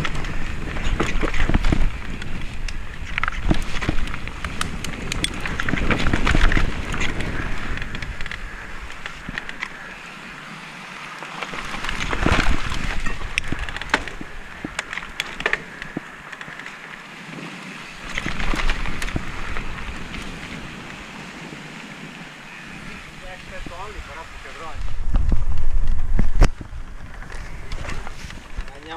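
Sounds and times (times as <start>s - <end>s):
bike clicks and rattles: 0.0s - 10.2s, 11.2s - 21.0s, 24.8s - 28.9s
wind buffeting microphone: 0.0s - 10.4s, 11.5s - 16.3s, 17.2s - 28.9s
tyres rolling over dirt: 0.0s - 10.5s, 11.1s - 28.9s.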